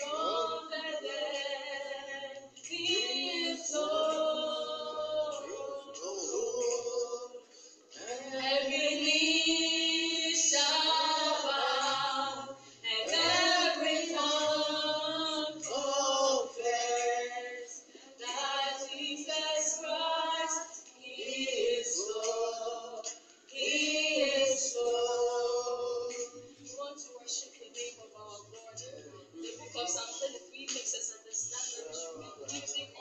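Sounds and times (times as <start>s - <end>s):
group of voices singing: 0.0s - 26.6s.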